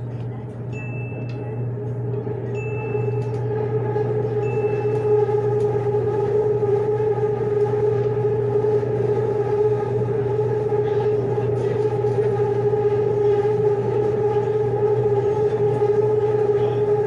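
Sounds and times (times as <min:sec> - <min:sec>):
low hum: 0:00.0 - 0:17.0
electric train motor whine: 0:00.7 - 0:17.0.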